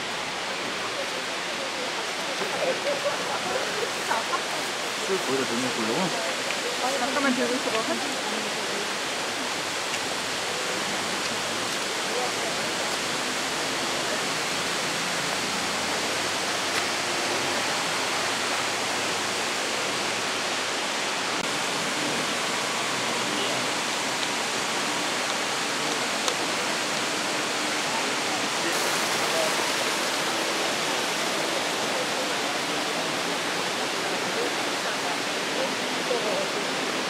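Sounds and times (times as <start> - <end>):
waterfall and river rushing: 0.0 - 37.0.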